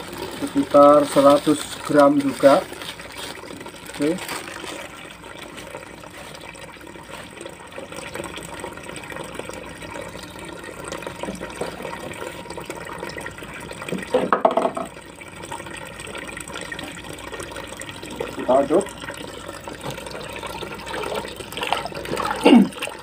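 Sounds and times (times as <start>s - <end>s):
water trickling into a bucket: 0.0s - 23.0s.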